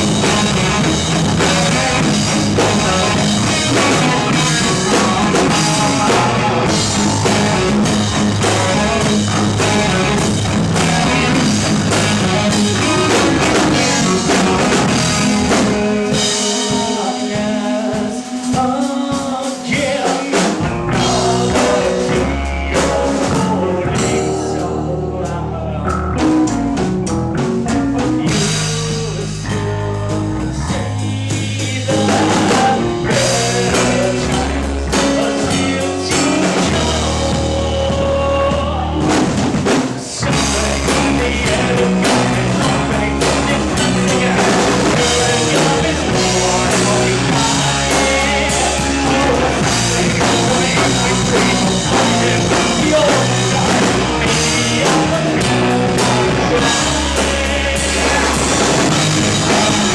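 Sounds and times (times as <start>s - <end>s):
bass guitar: 0.0s - 18.8s, 19.7s - 59.9s
person singing: 0.0s - 26.6s, 27.7s - 59.9s
distorted electric guitars: 0.0s - 59.9s
drum kit: 0.0s - 59.9s.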